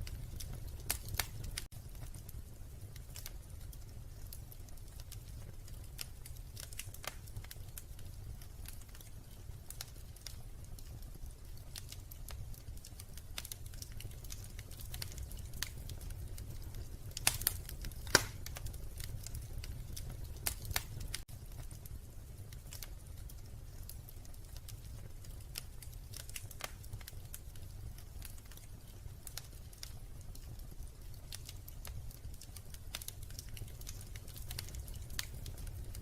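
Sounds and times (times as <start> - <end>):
low fire rumble: 0.0 - 36.0
wood fire crackling: 0.0 - 36.0.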